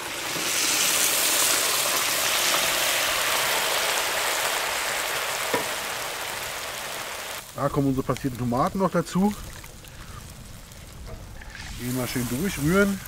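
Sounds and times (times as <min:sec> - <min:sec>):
broth hissing in hot pot: 0:00.0 - 0:07.7, 0:08.6 - 0:13.0.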